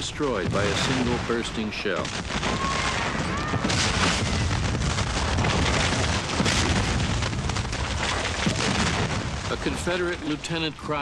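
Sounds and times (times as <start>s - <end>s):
cannon booms and bursting shells: 0.0s - 10.4s
gunfire: 0.3s - 10.0s.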